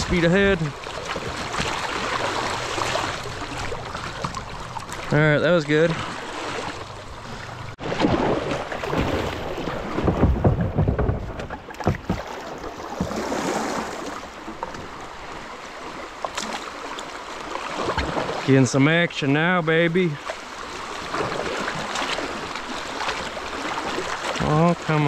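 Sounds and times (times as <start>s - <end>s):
river water rushing and splashing: 0.0s - 10.2s, 11.6s - 25.0s.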